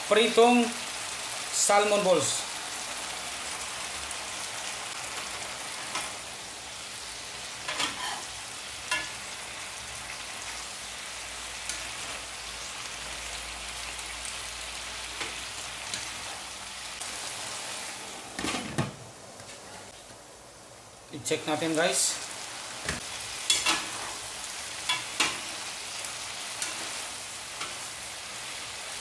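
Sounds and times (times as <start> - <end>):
food sizzling in a wok: 0.0 - 18.8, 19.6 - 29.0.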